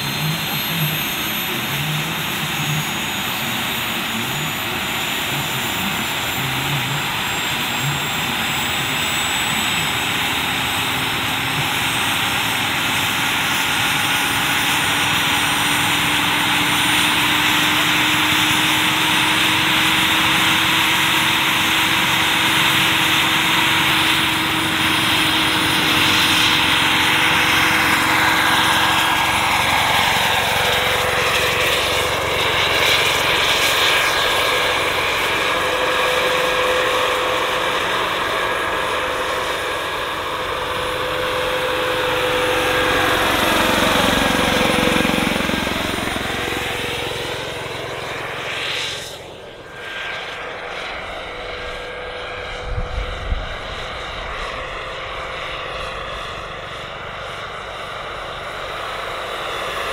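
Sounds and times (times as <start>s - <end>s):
helicopter rotor noise: 0.0s - 59.9s
helicopter turbine whine: 0.0s - 59.9s.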